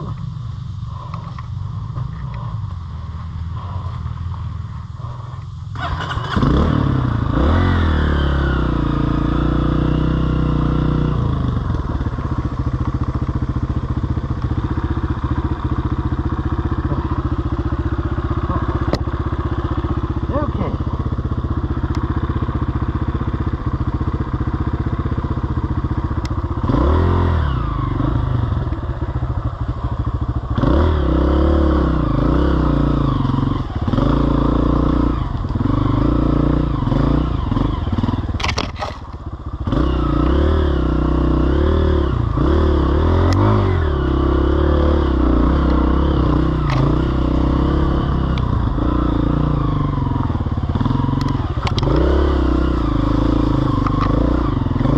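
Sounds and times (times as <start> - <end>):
off-road vehicle engine revving: 5.0 - 29.5, 30.4 - 39.0, 39.6 - 54.9.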